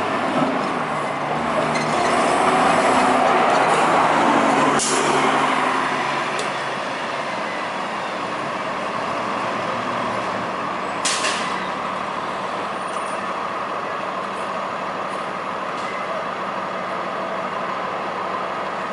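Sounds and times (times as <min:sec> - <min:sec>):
bus engine humming: 0:00.0 - 0:18.9.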